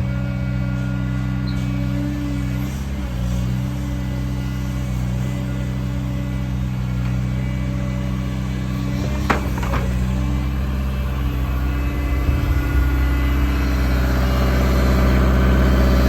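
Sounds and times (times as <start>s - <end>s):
diesel excavator engine running: 0.0s - 16.0s.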